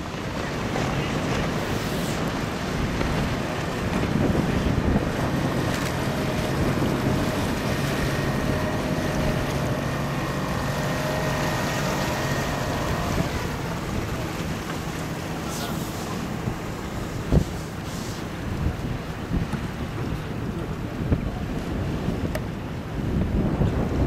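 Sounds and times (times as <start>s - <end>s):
water splashing around a boat: 0.0s - 24.0s
wind buffeting microphone: 0.0s - 24.0s.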